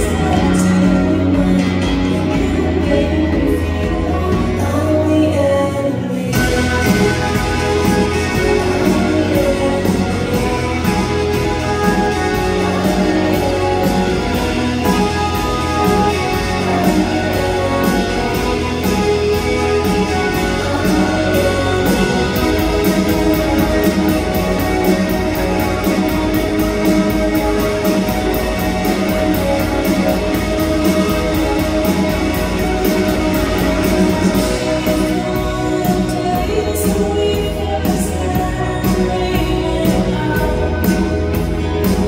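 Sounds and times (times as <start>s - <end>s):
electric guitar: 0.0s - 42.0s
drum kit steady beat: 6.3s - 42.0s.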